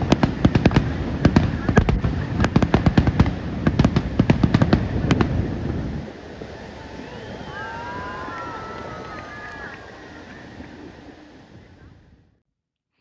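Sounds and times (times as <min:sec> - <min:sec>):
fireworks bangs and crackles: 0:00.0 - 0:11.2.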